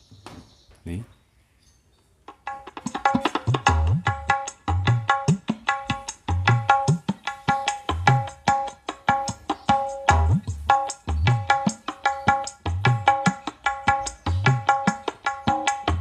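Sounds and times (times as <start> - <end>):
sharp hand-drum strokes: 2.4 - 16.0.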